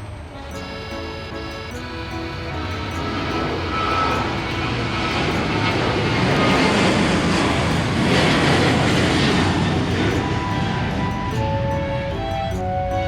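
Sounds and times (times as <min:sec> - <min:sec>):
airplane engines passing by: 0:00.0 - 0:13.0.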